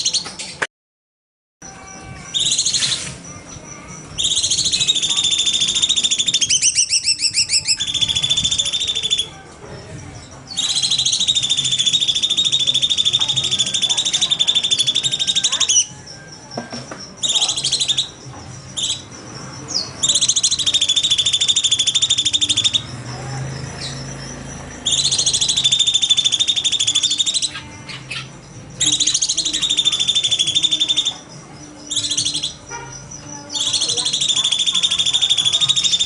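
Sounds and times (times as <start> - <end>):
songbird rattling trills: 1.6 - 36.0.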